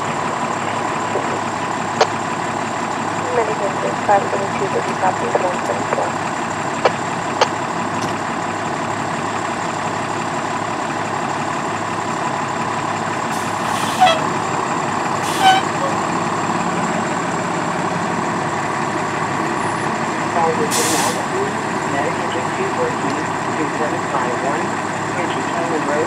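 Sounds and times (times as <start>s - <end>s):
fire engines idling rumble: 0.0s - 26.0s
truck fire burning: 0.0s - 26.0s.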